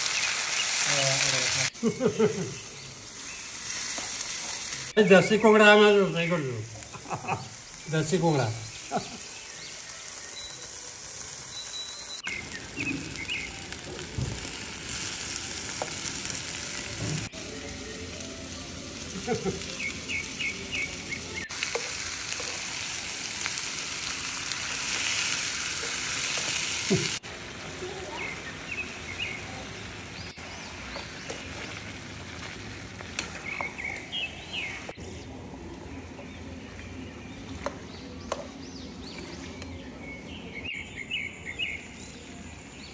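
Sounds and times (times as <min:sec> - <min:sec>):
chicken sizzling in a pan: 0:00.0 - 0:35.0
birds chirping: 0:00.0 - 0:42.9.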